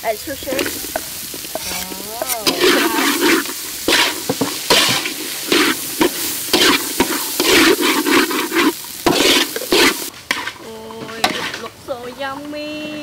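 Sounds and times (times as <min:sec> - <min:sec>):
oil sizzling: 0:00.0 - 0:12.6
metal spatula scraping wok: 0:00.1 - 0:13.0.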